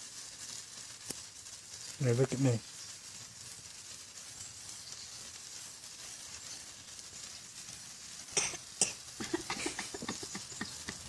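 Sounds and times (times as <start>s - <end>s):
sparkler fizzing and crackling: 0.0s - 11.0s.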